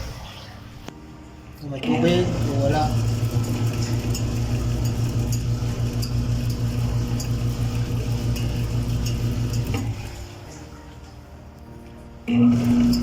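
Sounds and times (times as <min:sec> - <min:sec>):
washing machine hum: 0:00.0 - 0:11.4, 0:12.2 - 0:13.0.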